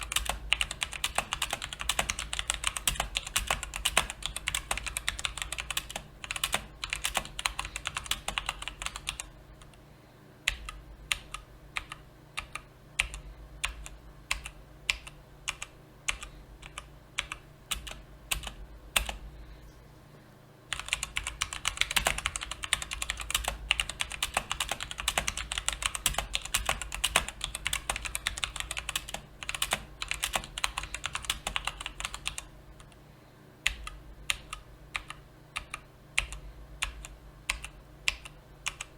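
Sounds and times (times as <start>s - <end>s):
typing on mechanical keyboard: 0.0s - 9.7s, 10.5s - 19.2s, 20.7s - 32.5s, 33.7s - 38.9s.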